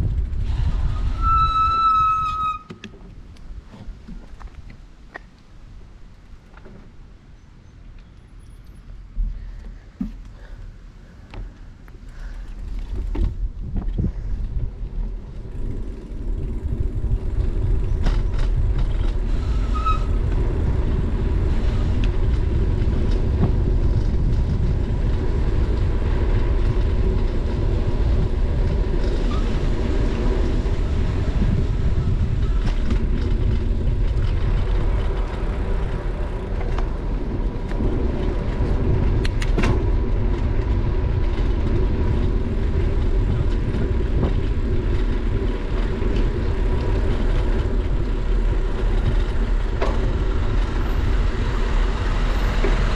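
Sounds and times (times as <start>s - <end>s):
wind buffeting: 0.0s - 6.0s, 10.8s - 52.9s
tyres rolling on asphalt: 0.0s - 52.9s.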